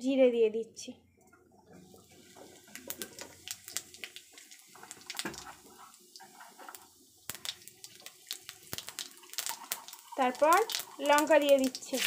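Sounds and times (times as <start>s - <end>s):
seeds sizzling and crackling in oil: 1.8s - 12.0s.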